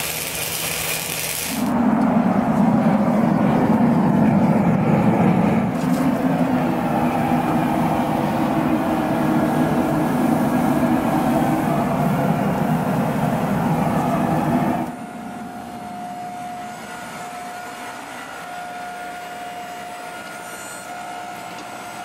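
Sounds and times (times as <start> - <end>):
gas forge burner roaring: 0.0 - 22.0.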